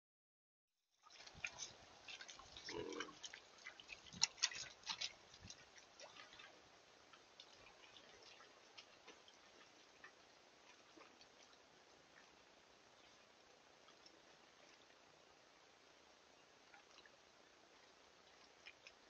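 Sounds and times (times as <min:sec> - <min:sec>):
hogs splashing through water: 0:01.0 - 0:15.2, 0:16.6 - 0:19.0.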